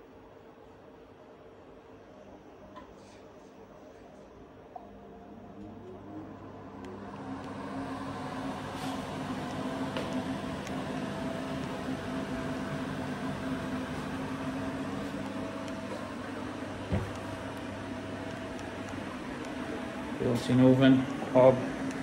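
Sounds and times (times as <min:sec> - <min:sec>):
extractor fan humming: 0:01.8 - 0:22.0.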